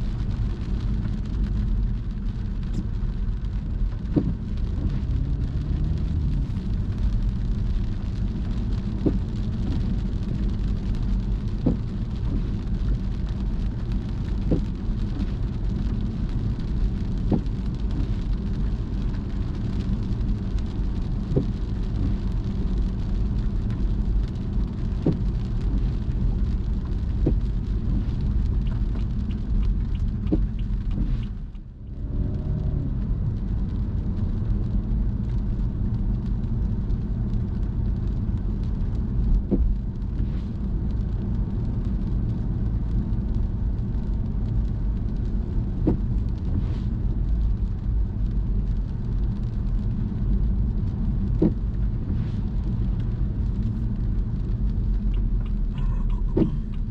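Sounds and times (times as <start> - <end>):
rain and road noise: 0.0 - 56.9.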